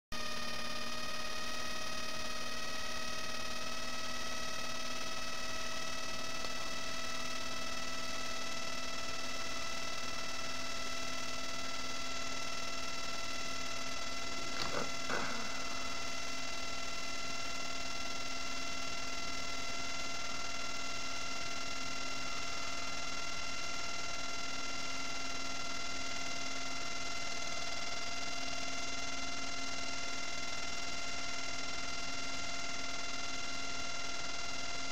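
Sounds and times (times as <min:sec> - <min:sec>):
electrical hum and whine: 0:00.2 - 0:34.9.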